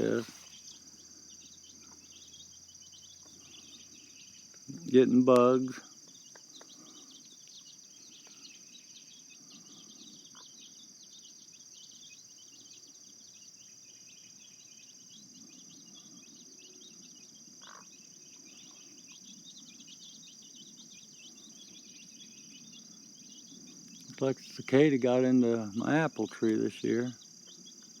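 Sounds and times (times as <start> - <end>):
insect chirps: 0.0 - 28.0.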